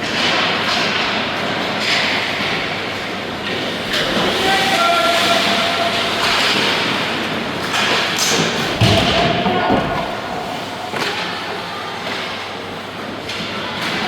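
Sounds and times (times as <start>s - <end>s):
rushing din of indoor arena: 0.0s - 14.0s.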